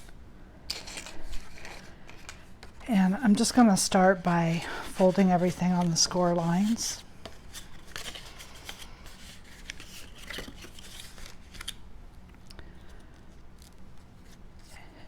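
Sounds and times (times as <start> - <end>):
cardstock folding and crackling: 0.7 - 14.7.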